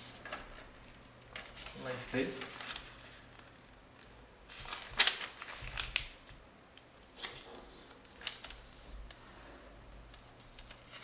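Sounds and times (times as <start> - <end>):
paper rustling and creasing: 0.0 - 6.4, 7.1 - 9.2, 10.1 - 11.0.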